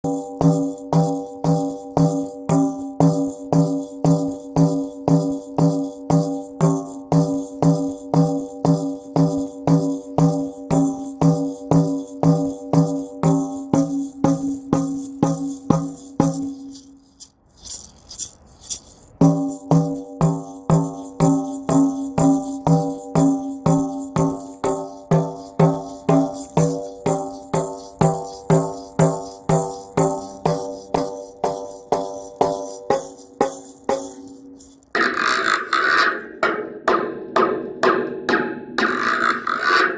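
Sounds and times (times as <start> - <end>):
repeating drum beat: 0.0 - 34.9
jingling percussion: 0.0 - 35.3.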